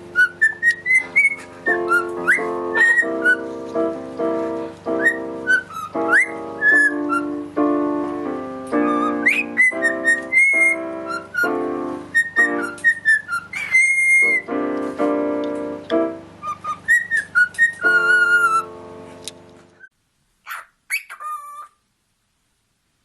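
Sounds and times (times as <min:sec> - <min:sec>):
piano chords: 0:00.0 - 0:19.9.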